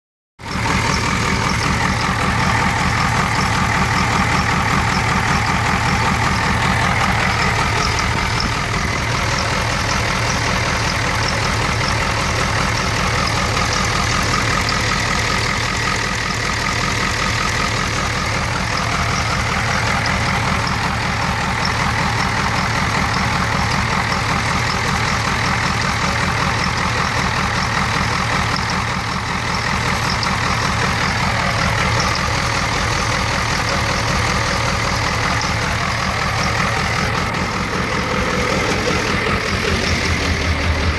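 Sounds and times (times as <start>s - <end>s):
diesel engine idling roughly: 0.4s - 40.9s.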